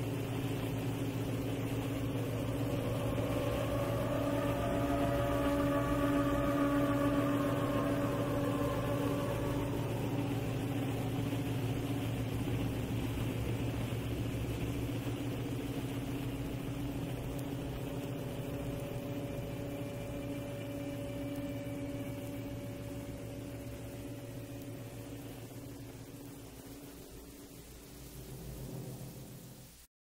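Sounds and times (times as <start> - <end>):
low drone with held tones: 0.0 - 29.9.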